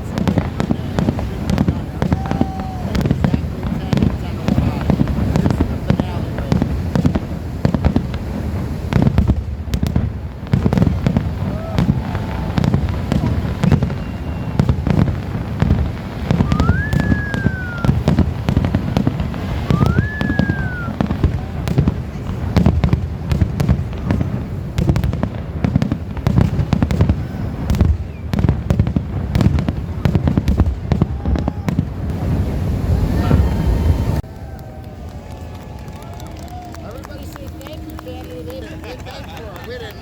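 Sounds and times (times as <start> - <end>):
firework whistles: 0.0 - 35.0
fireworks booms and crackling bangs: 0.0 - 40.0.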